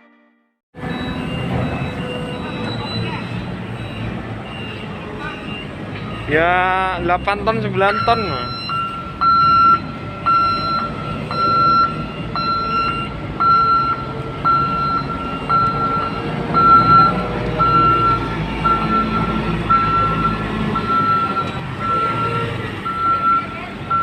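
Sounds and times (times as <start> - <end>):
reversing alarm beeping: 0.8 - 24.0.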